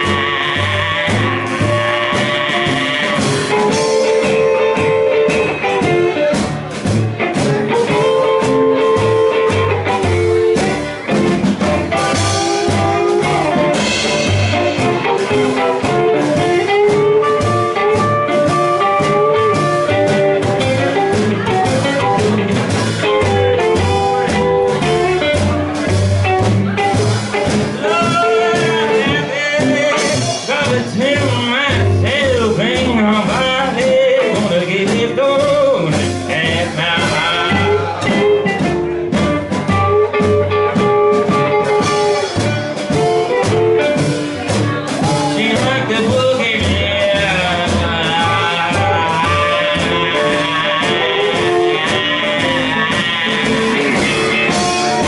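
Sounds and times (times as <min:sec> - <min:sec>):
acoustic guitar: 0:00.0 - 0:55.0
drum kit: 0:00.0 - 0:55.0
electric guitar: 0:00.0 - 0:55.0
upright bass: 0:00.0 - 0:55.0.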